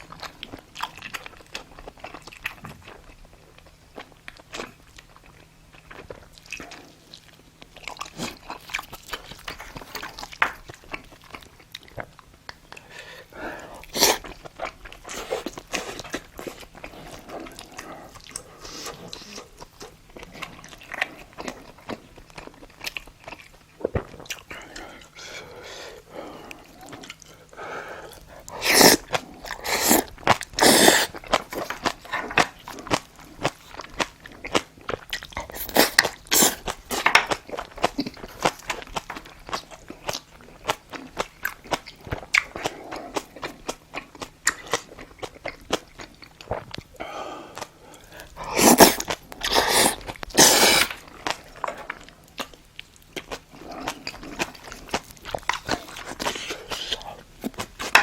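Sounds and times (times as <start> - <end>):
close chewing and biting: 0.0 - 58.0.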